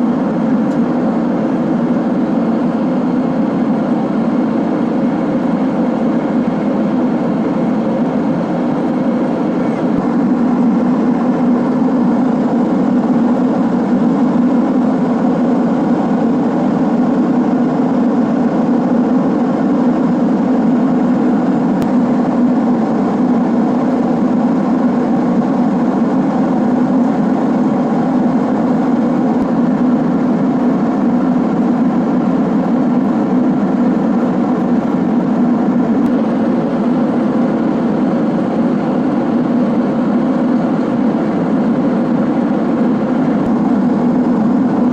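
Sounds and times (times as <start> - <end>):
airliner cabin drone: 0.0 - 44.9.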